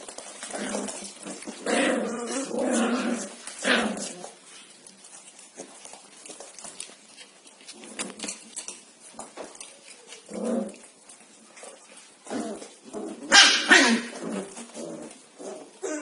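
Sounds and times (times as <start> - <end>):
puppies yapping and barking: 0.0 - 16.0.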